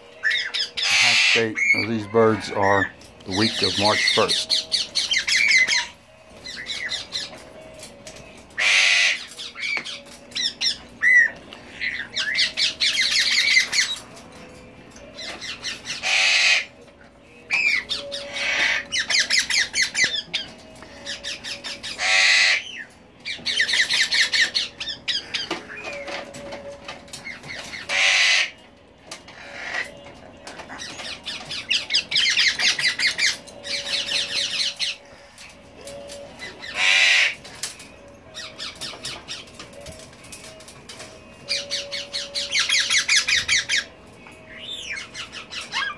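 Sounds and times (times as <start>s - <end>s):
parrots squawking: 0.1s - 7.6s, 8.6s - 14.0s, 15.2s - 16.8s, 17.5s - 26.2s, 27.2s - 28.6s, 29.3s - 37.6s, 41.5s - 43.9s, 44.5s - 45.9s.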